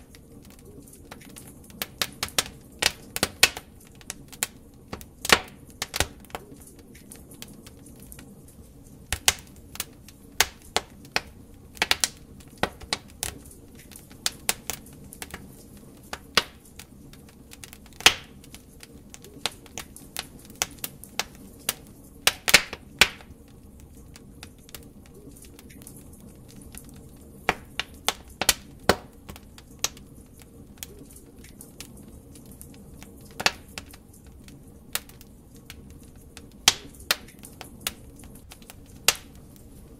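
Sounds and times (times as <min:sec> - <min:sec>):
log fire crackling: 0:00.0 - 0:39.9
low hiss of burning wood: 0:00.0 - 0:39.9.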